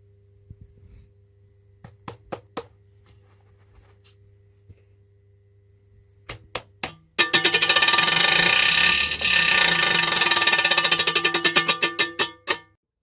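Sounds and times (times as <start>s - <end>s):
low steady hum: 0.0s - 12.6s.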